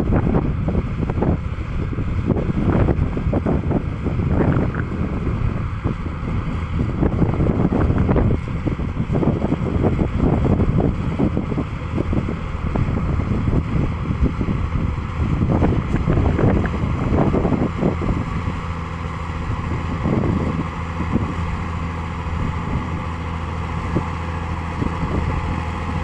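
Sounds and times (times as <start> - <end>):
tractor engine under load: 0.0 - 26.0
wind buffeting microphone: 0.0 - 26.0.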